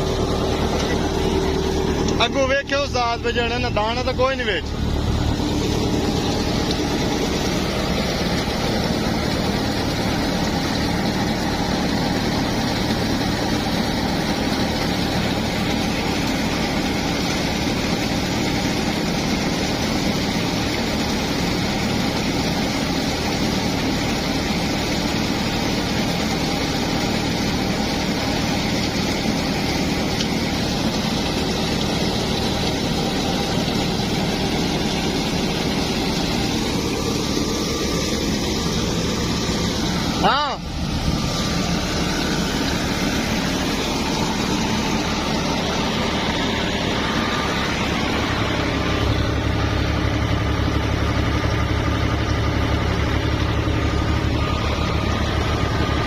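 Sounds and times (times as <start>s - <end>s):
tractor engine driving thresher: 0.0s - 56.0s.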